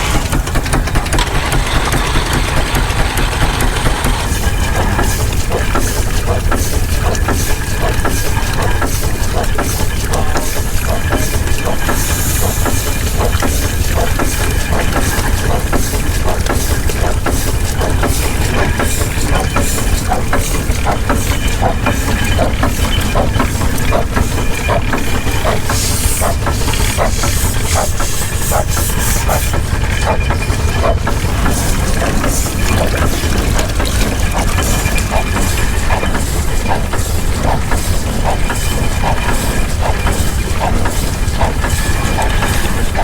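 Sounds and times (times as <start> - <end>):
steam engine rumbling: 0.0 - 43.0
steam hissing: 0.0 - 43.0.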